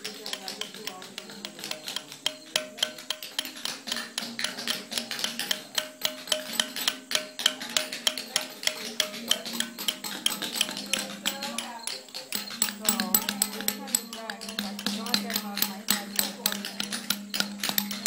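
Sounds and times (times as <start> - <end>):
hammer tapping chisel: 0.0 - 18.0.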